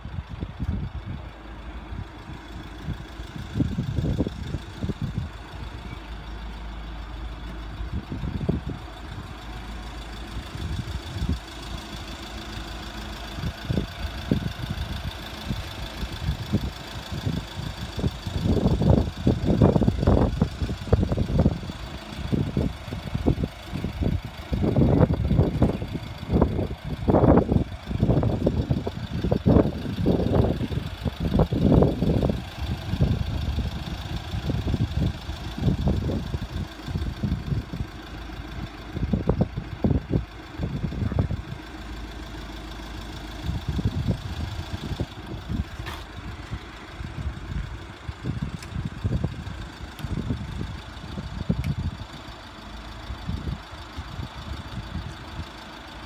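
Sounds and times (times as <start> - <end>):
low rumbles: 0.0 - 56.0
vehicle engine idling: 0.0 - 56.0.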